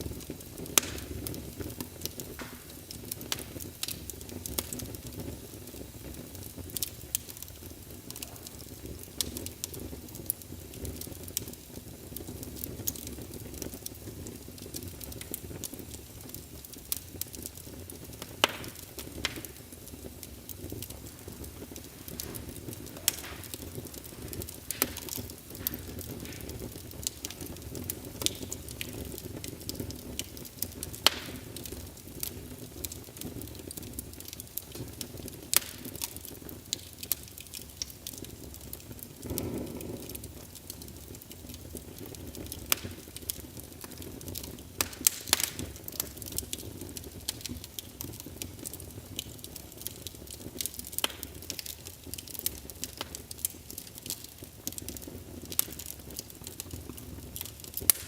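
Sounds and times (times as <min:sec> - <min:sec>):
logs crackling and popping: 0:00.0 - 0:58.0
low rumble of flame: 0:00.0 - 0:58.0.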